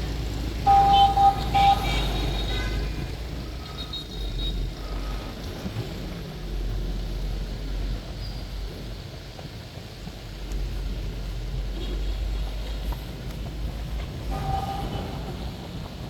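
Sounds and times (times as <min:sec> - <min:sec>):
bus engine and road rumble: 0:00.0 - 0:16.0
street noise: 0:00.0 - 0:16.0.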